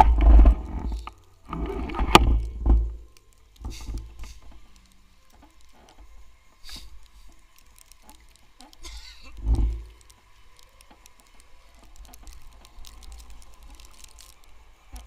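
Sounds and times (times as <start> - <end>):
small clicks and crackles: 0.0 - 15.0.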